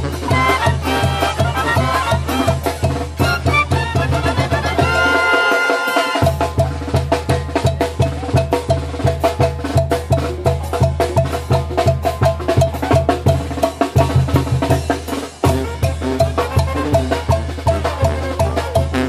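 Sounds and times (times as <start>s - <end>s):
brass band playing: 0.0s - 7.2s, 10.6s - 19.0s
bass drum and snare beat: 0.0s - 19.0s.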